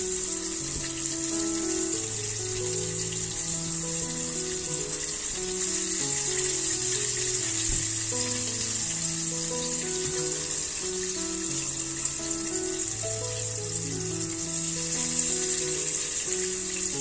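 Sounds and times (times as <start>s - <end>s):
slow held-note background music: 0.0s - 17.0s
steady high hiss: 0.0s - 17.0s.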